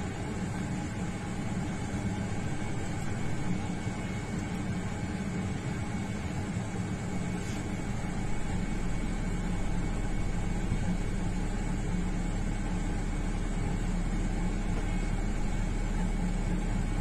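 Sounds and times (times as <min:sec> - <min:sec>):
low electrical hum: 0:00.0 - 0:17.0
machinery humming and whirring: 0:00.0 - 0:17.0.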